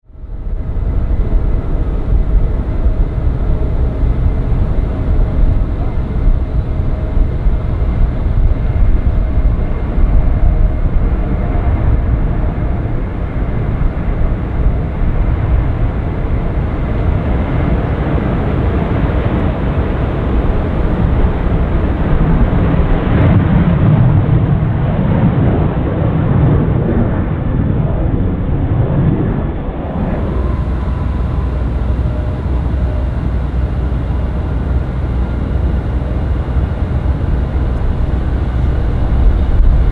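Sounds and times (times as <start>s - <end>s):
jet airliner engine rumble: 0.1s - 39.9s.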